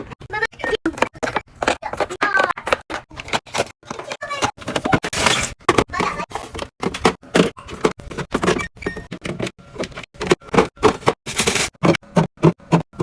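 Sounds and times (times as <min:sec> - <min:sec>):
containers clicking and knocking: 0:00.0 - 0:13.0.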